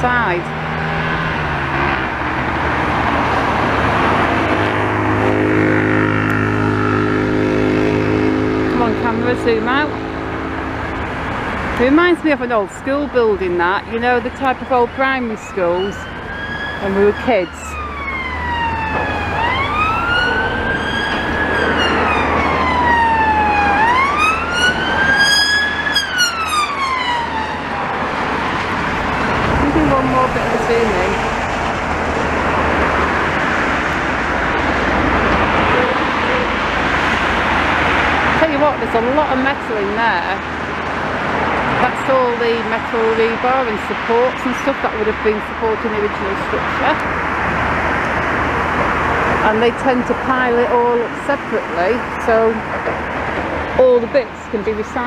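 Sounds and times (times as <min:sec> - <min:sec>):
emergency siren wailing: 0:00.0 - 0:53.3
engine drone: 0:00.0 - 0:55.0
low traffic rumble: 0:00.0 - 0:55.0
vehicle passing: 0:00.0 - 0:55.0.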